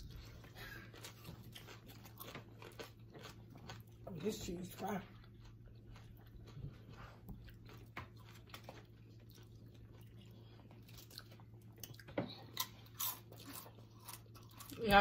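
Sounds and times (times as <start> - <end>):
chewing crunchy chips: 0.0 - 15.0
low steady hum: 0.0 - 15.0.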